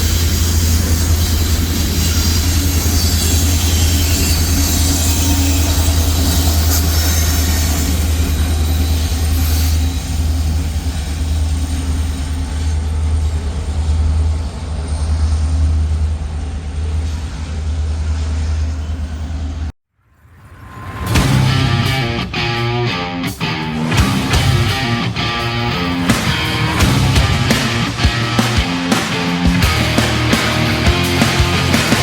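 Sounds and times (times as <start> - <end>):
freight train rumbling past: 0.0 - 19.7, 20.5 - 32.0
wheels hissing on rails: 0.0 - 19.7, 23.4 - 32.0.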